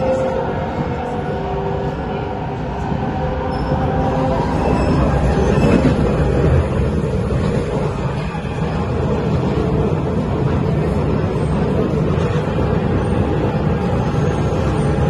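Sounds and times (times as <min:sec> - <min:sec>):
metro train wheels rumbling on rails: 0:00.0 - 0:15.0.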